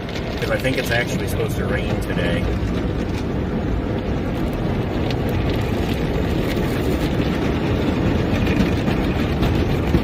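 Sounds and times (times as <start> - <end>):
car wash rushing rumble: 0.0 - 10.0.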